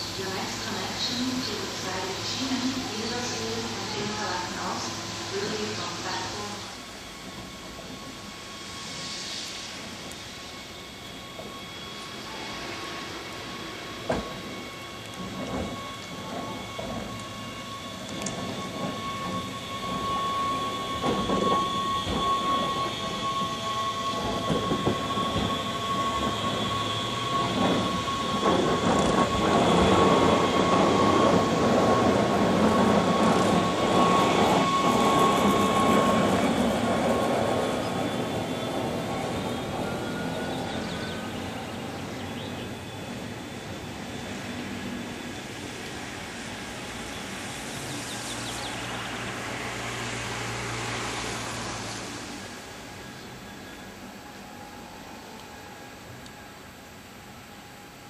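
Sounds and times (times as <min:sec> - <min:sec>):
high-pitched whine: 0:00.0 - 0:58.0
train wheel rumble: 0:00.0 - 0:58.0.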